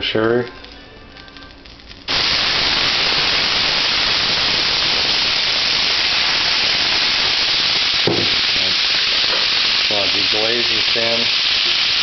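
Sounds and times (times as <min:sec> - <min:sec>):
liquid sizzling in hot pan: 0:00.0 - 0:12.0.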